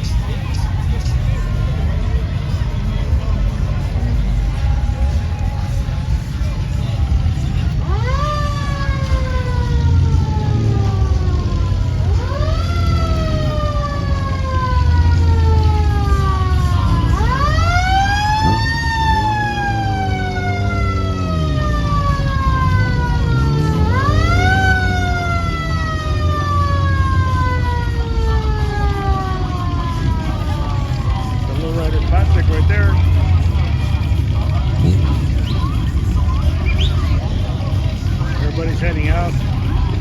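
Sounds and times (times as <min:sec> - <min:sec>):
low engine rumble: 0:00.0 - 0:40.0
mechanical siren wailing: 0:07.1 - 0:40.0.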